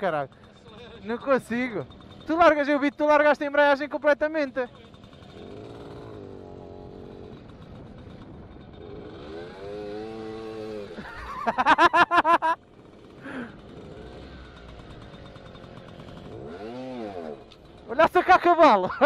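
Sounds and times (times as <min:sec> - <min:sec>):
small motorcycle engine revving: 0:00.0 - 0:19.0.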